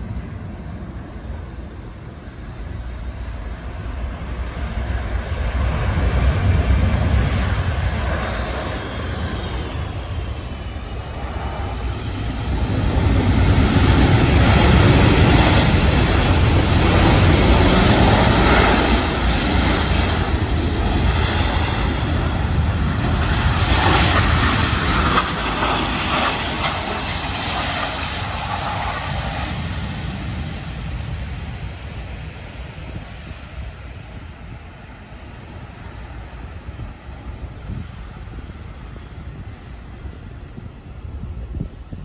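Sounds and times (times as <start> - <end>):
jet engines rushing: 0.0 - 42.0.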